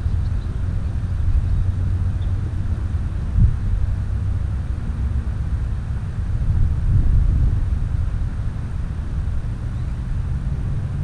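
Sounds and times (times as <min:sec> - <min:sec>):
wind buffeting microphone: 0:00.0 - 0:04.6, 0:05.4 - 0:11.0.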